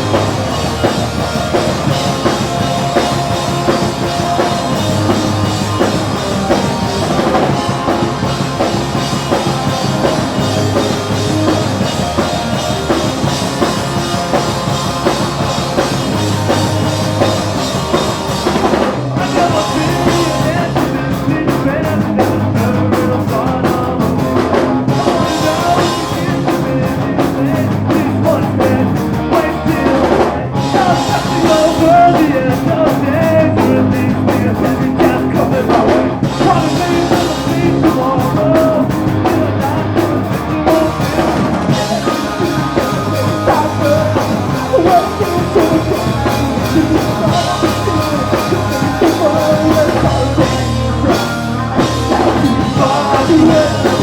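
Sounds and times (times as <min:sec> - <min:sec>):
drum kit pounding: 0:00.0 - 0:54.0
loud guitars: 0:00.0 - 0:54.0
person singing: 0:00.0 - 0:54.0.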